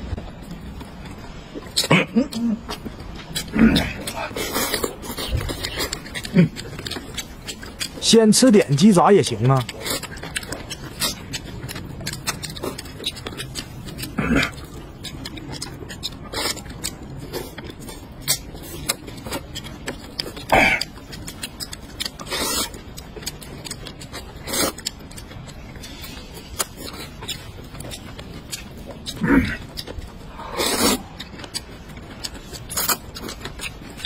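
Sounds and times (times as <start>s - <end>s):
chewing: 0.1s - 34.0s.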